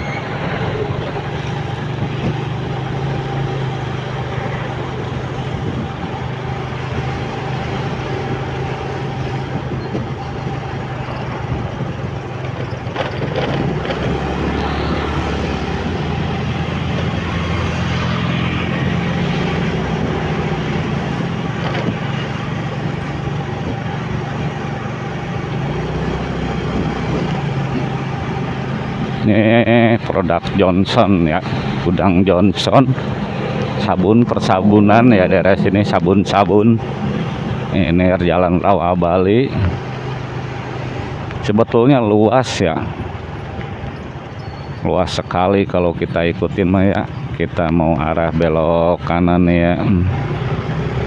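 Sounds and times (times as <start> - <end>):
motorcycle engine running: 0.0 - 44.8
road and wind noise: 0.0 - 51.0.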